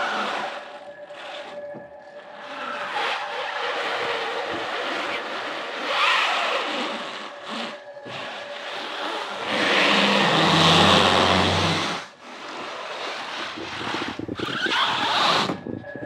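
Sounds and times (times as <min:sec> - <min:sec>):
tyres squealing on concrete: 0:02.3 - 0:15.6.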